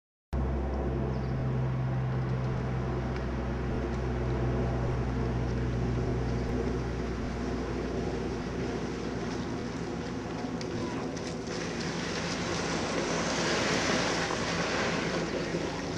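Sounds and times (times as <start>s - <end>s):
low motor drone: 0.3s - 15.9s.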